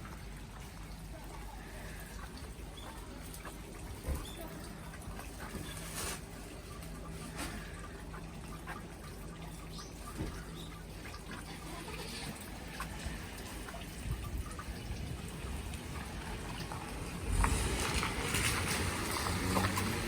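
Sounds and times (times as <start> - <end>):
steady wet hiss: 0.0 - 20.0
water dripping: 0.0 - 20.0.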